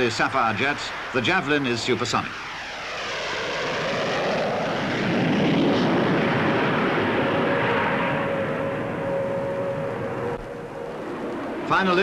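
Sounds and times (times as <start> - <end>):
jet fighter roaring past: 0.0 - 12.0
steady whine: 0.0 - 12.0.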